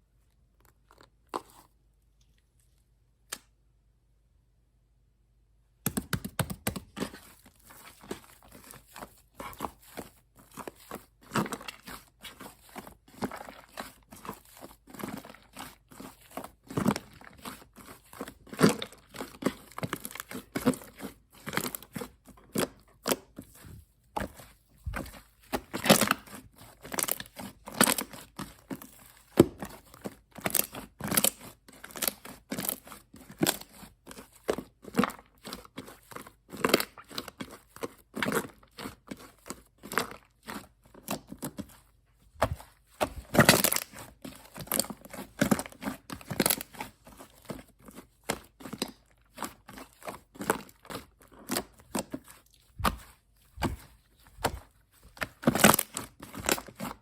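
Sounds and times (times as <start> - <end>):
slime crackling and squishing: 5.9 - 57.0.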